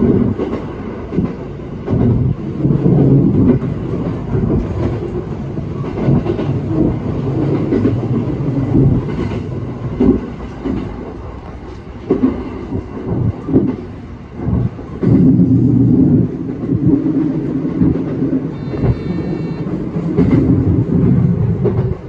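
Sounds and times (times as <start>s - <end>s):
clickety-clack over rail joints: 0.0s - 22.0s
diesel railcar engine and wheel rumble: 0.0s - 22.0s.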